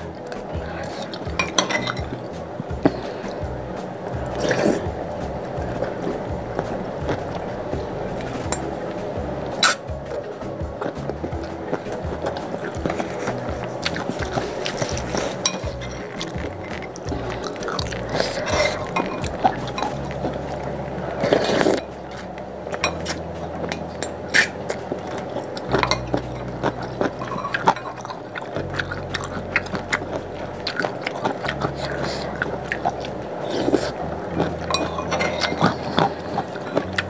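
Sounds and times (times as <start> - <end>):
chewing: 0.0 - 37.0
slurping noodles: 0.0 - 37.0.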